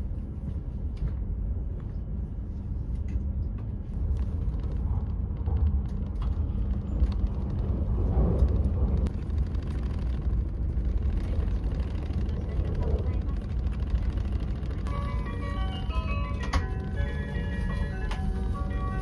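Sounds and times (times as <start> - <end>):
train low rumble inside car: 0.0 - 19.0.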